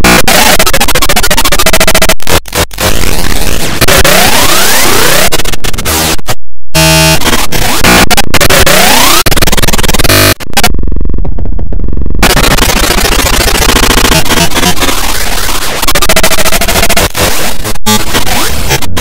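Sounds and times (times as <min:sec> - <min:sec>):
distorted electronic noise: 0:00.0 - 0:19.0.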